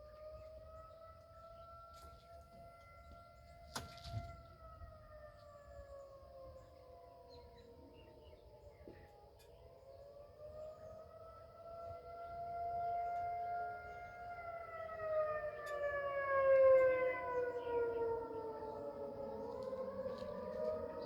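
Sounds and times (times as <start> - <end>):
warning sirens wailing: 0.0 - 21.0.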